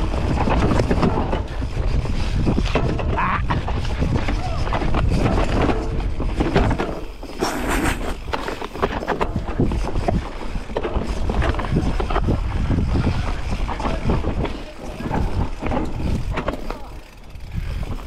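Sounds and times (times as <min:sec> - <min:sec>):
bike knocking and rattling: 0:00.0 - 0:18.0
tyres rumbling over dirt: 0:00.0 - 0:18.0
wind buffeting microphone: 0:00.0 - 0:18.0.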